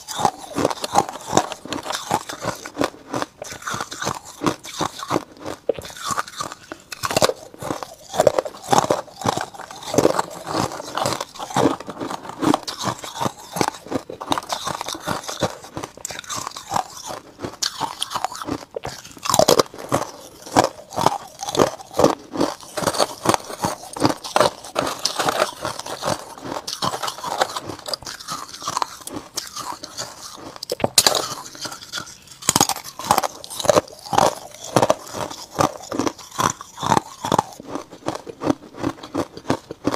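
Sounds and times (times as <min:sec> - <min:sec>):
ice being chewed and crunching: 0:00.0 - 0:39.9.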